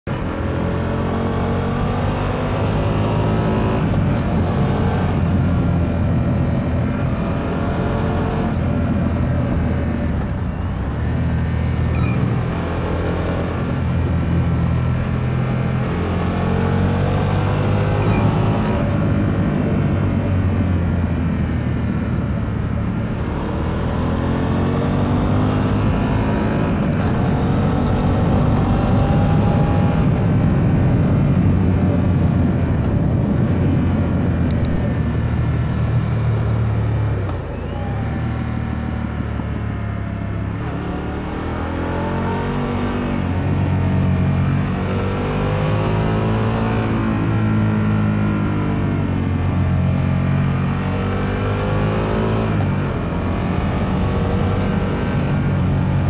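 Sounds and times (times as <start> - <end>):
motorcycle engine revving: 10.9 - 56.0.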